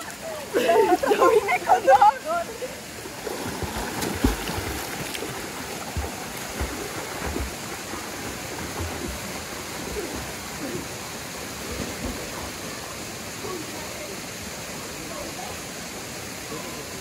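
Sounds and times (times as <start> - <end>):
water splashing from swimmers: 0.0 - 17.0.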